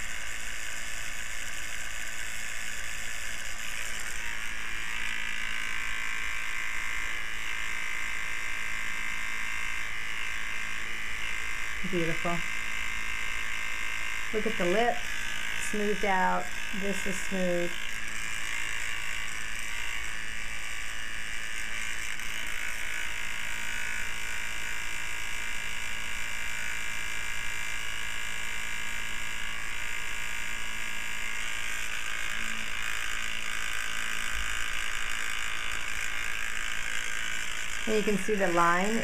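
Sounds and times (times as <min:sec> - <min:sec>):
electric fan whirring: 0:00.0 - 0:39.0.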